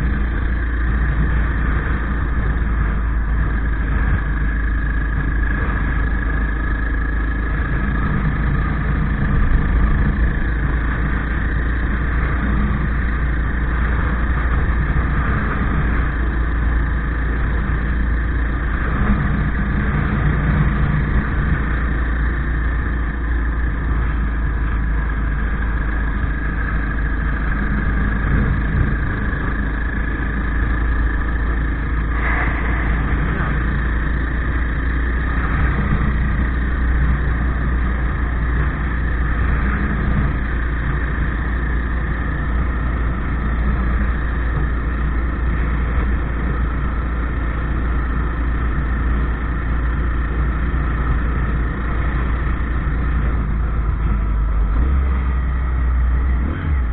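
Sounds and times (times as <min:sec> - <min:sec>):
motorcycle engine running: 0:00.0 - 0:56.9
wind rumble on microphone: 0:00.0 - 0:56.9.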